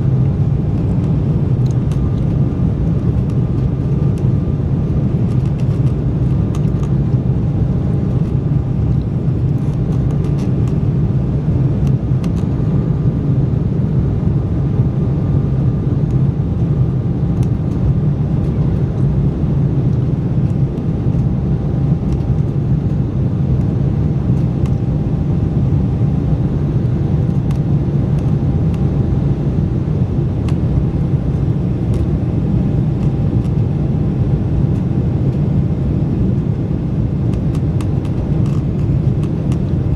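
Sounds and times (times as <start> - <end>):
faint steady whine: 0.0 - 39.9
jet engines low rumble: 0.0 - 39.9.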